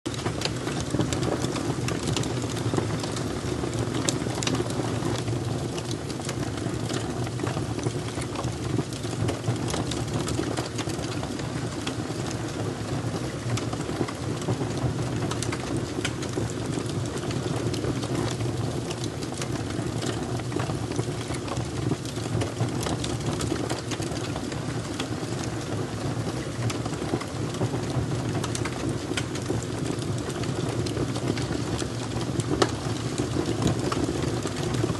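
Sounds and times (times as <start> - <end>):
fire crackling and popping: 0.1 - 34.9
low rumble of fire: 0.1 - 34.9.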